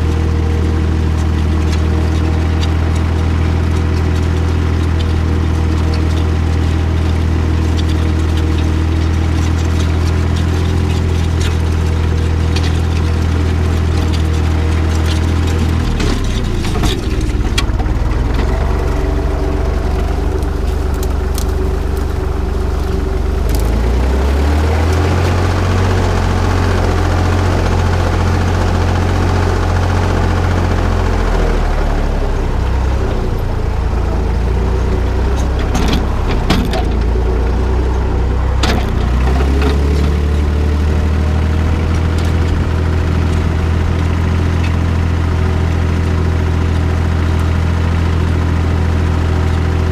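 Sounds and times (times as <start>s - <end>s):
knocks and rattles: 0.0s - 30.6s, 32.6s - 46.2s
tractor engine running: 0.0s - 49.9s.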